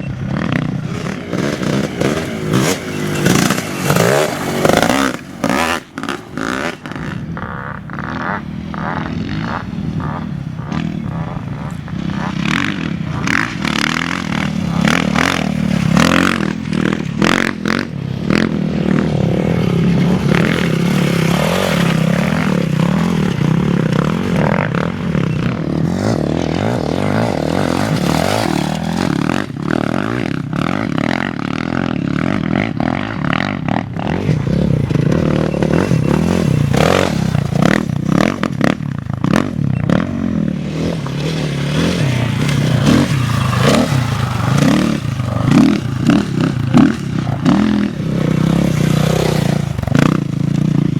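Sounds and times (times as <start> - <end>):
off-road engine running hard: 0.0 - 50.9.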